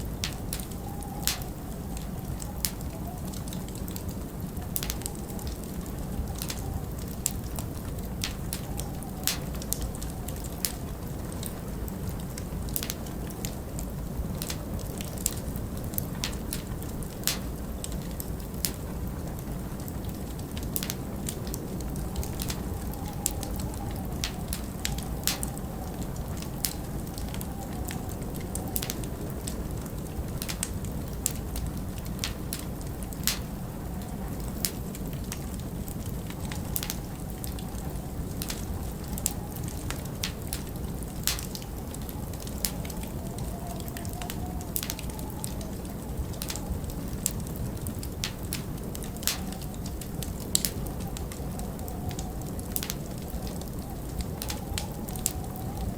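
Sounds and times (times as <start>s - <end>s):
faint wavering wind whistle: 0.0s - 55.9s
wood fire crackling: 0.0s - 55.9s.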